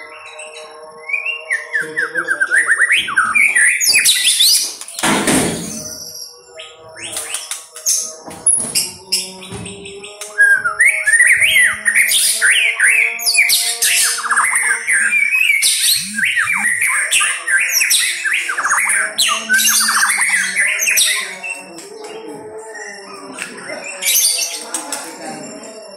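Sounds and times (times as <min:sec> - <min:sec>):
bird singing whistled song: 0:00.0 - 0:05.0, 0:05.6 - 0:08.1, 0:09.2 - 0:24.7.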